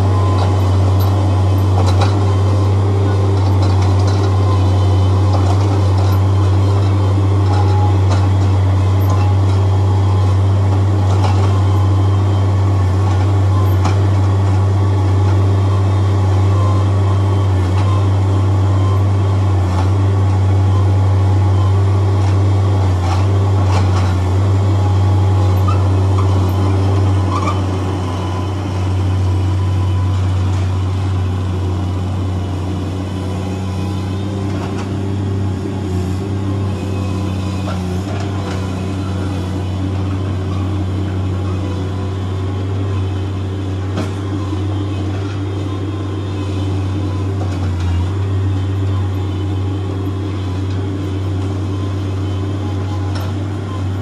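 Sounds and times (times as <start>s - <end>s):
loader engine droning: 0.0s - 54.0s.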